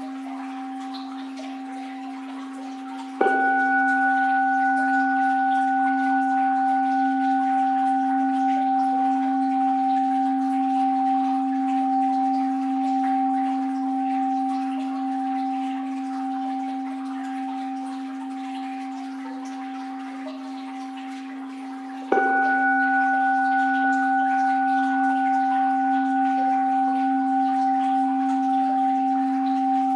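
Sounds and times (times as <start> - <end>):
bowl bell ringing: 0.0 - 29.9
faint flowing water: 0.0 - 29.9.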